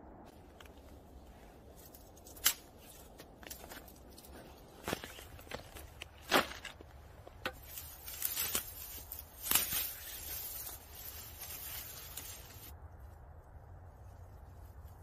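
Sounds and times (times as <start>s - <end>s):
dry twigs rustling and crackling: 0.3s - 15.0s.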